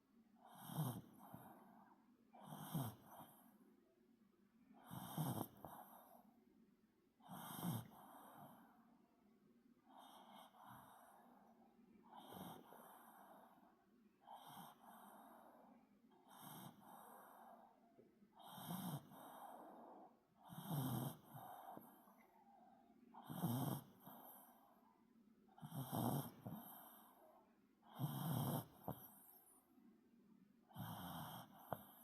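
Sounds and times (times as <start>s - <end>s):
dog snoring faintly: 0.4s - 3.6s, 4.7s - 6.4s, 7.2s - 8.9s, 9.8s - 29.7s, 30.7s - 32.0s.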